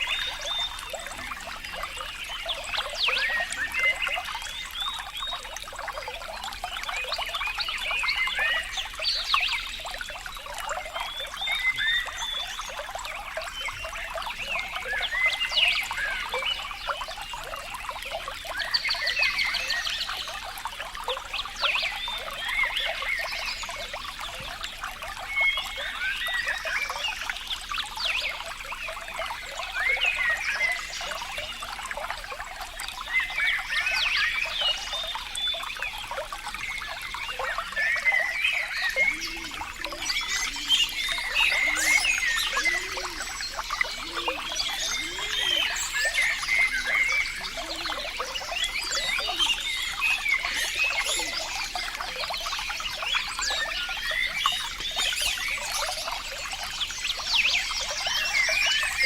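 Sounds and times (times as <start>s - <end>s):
water trickling and gurgling: 0.0s - 59.0s.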